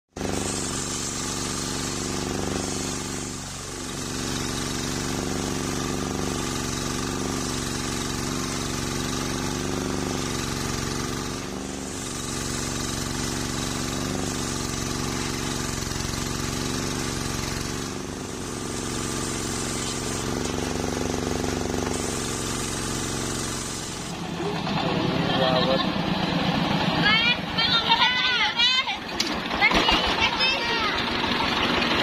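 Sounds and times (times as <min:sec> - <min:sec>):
motor drone: 0:00.1 - 0:32.0.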